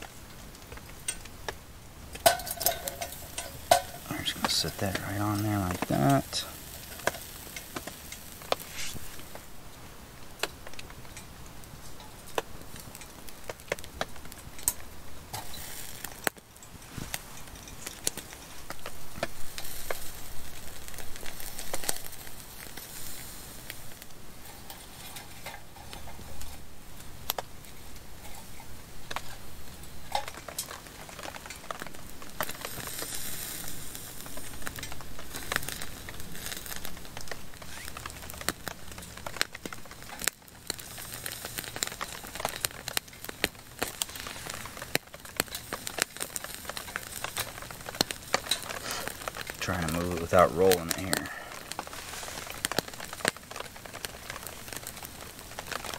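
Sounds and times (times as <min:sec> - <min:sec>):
burning wood crackling: 0:00.0 - 0:55.9
sausages sizzling on a grate: 0:00.0 - 0:55.9.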